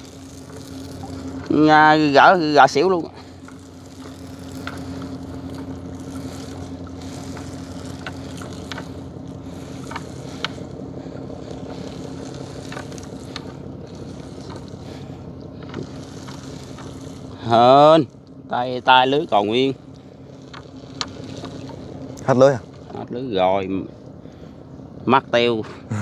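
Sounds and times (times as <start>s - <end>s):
small boat engine humming: 0.0s - 26.0s.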